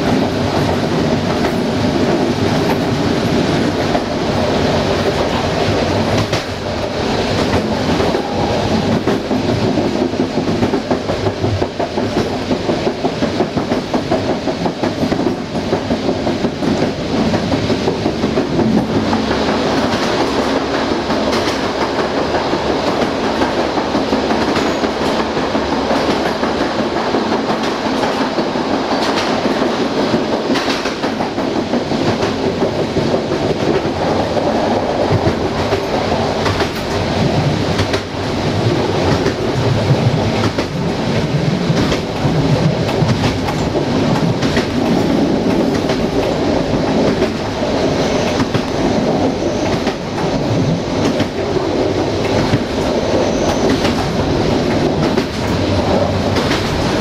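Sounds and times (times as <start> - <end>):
train wheels rumbling on track: 0.0 - 57.0
wheels clicking over rail joints: 0.0 - 57.0.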